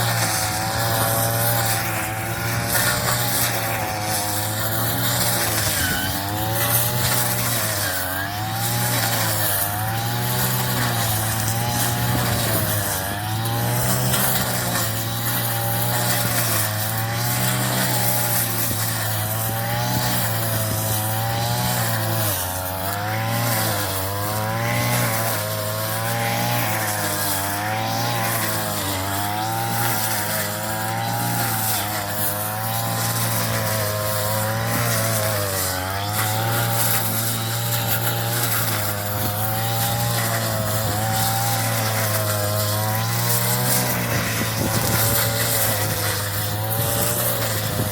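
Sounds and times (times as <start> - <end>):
small engine of straw cutter: 0.0 - 47.9.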